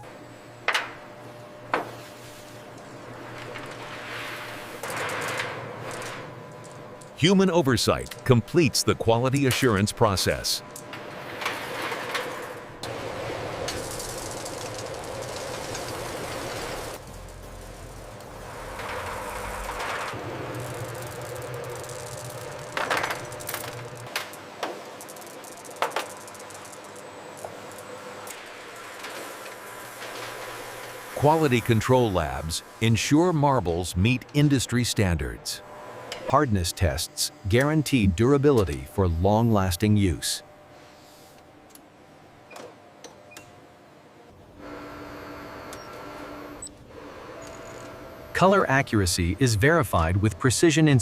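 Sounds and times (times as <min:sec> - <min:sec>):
factory machine hum: 0:00.0 - 0:51.0.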